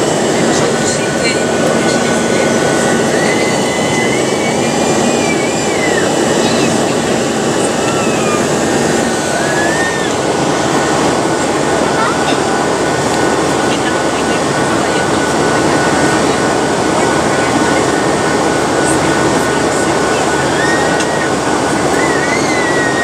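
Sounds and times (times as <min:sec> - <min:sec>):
airflow over fuselage: 0:00.0 - 0:23.0
jet engines in flight: 0:00.0 - 0:23.0.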